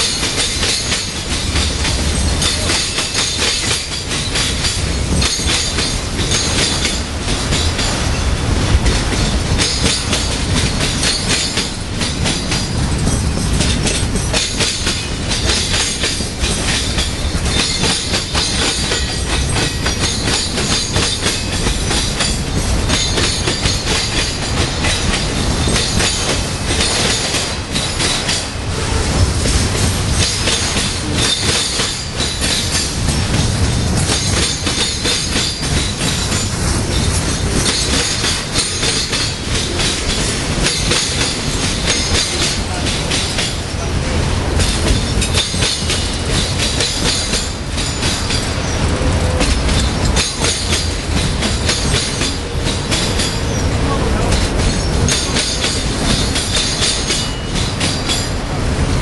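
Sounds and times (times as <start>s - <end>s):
high metallic hiss: 0.0s - 59.0s
train wheels rolling on rail: 0.0s - 59.0s.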